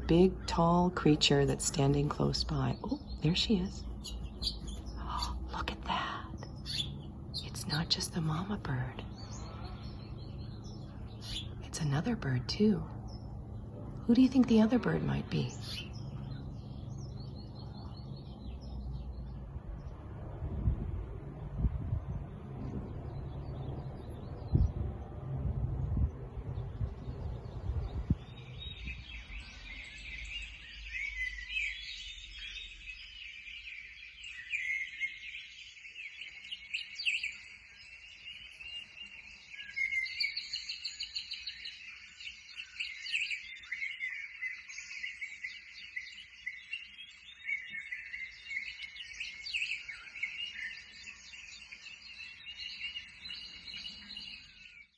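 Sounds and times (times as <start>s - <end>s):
songbirds chirping and twittering: 0.0s - 54.9s.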